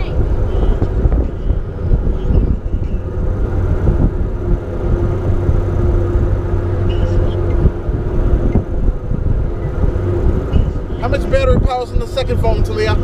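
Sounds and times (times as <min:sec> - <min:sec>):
boat motor droning: 0:00.0 - 0:13.0
wind buffeting microphone: 0:00.0 - 0:13.0.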